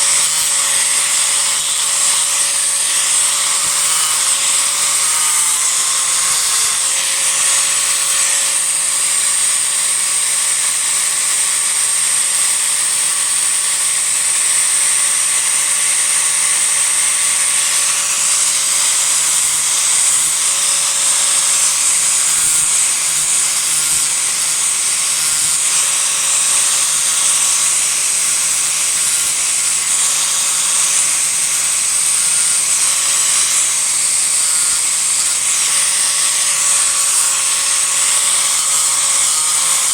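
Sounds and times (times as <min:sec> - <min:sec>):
disc grinder grinding wood: 0:00.0 - 0:39.9.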